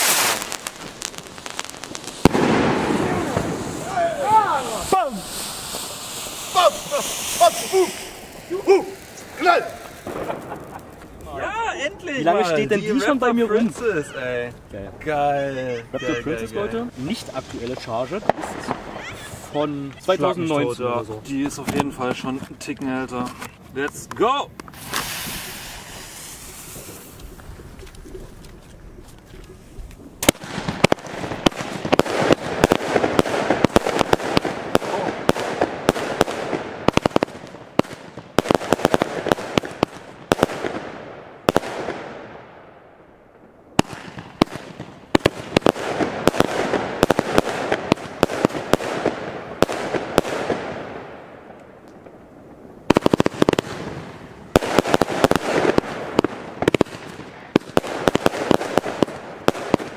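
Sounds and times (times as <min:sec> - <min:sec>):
fireworks shots and bursts: 0:00.0 - 0:13.5, 0:15.4 - 0:20.7, 0:24.6 - 0:28.3, 0:30.2 - 0:59.9
fireworks crackling: 0:00.0 - 0:59.9.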